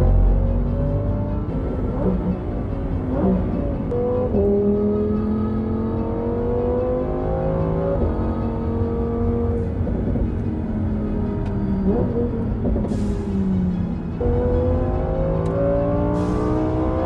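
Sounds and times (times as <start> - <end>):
sports car engine accelerating: 0.0 - 12.7, 14.1 - 17.0.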